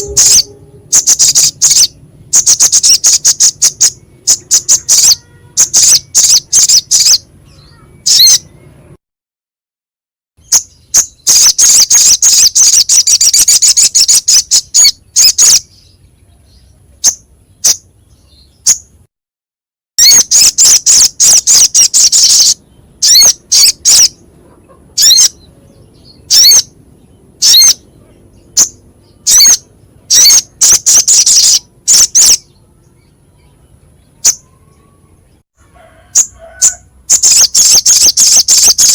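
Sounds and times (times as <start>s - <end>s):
songbird calling in harsh high notes: 0.0s - 8.6s, 10.4s - 19.0s, 20.0s - 24.2s, 25.0s - 26.7s, 27.4s - 35.1s, 36.1s - 38.9s.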